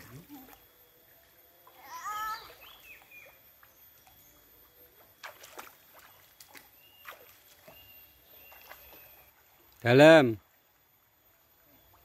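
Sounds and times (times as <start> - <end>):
feet wading through water: 1.6 - 12.0.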